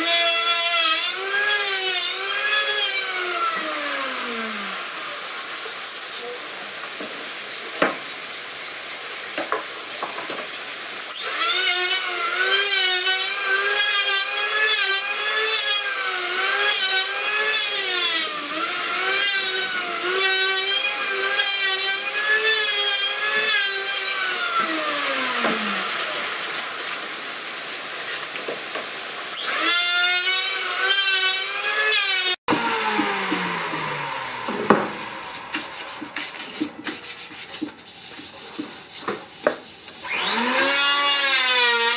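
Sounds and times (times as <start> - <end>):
sandpaper rubbing wood: 0.1 - 28.6, 29.8 - 41.9.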